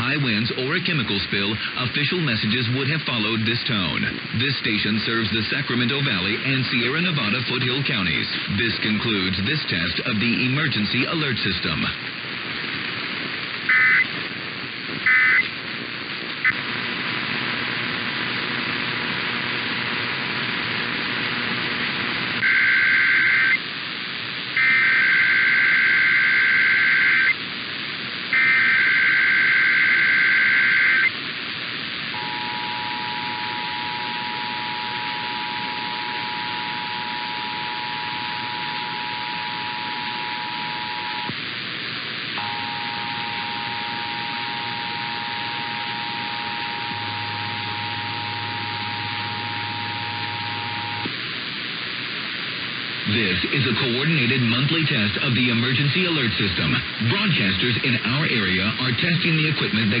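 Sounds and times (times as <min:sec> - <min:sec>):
radio static hiss: 0:00.0 - 1:00.0.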